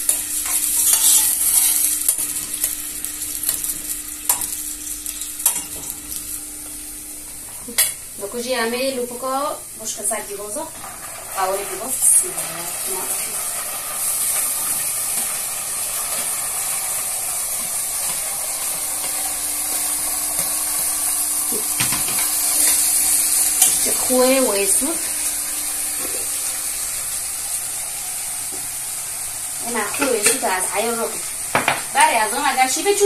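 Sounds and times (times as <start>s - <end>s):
onion sizzling in hot oil: 0.0s - 33.0s.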